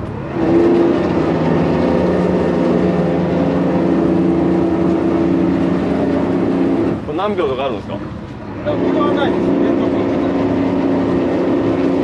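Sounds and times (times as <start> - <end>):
boat thruster humming: 0.0 - 12.0.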